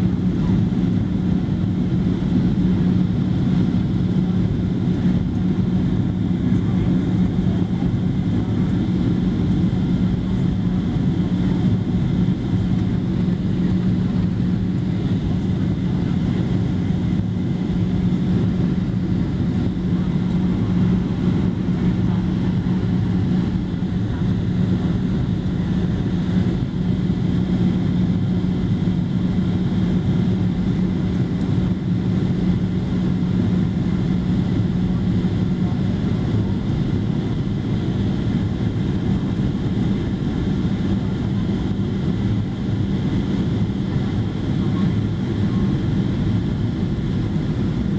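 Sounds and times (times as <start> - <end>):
constant low hum: 0.0 - 47.9
jet engine drone: 0.0 - 47.9.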